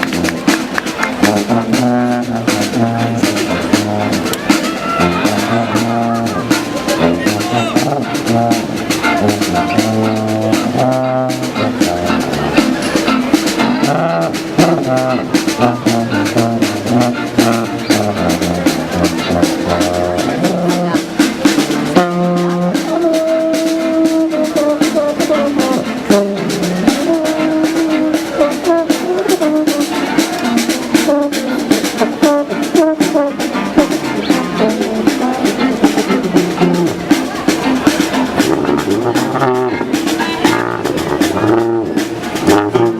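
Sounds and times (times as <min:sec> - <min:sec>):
brass melody: 0:00.0 - 0:42.9
steady drum beat: 0:00.0 - 0:42.9.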